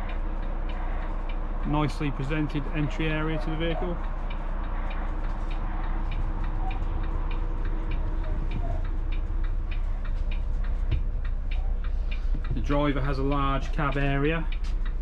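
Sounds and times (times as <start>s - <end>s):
coach engine humming: 0.0s - 15.0s
quick even ticking: 0.0s - 15.0s.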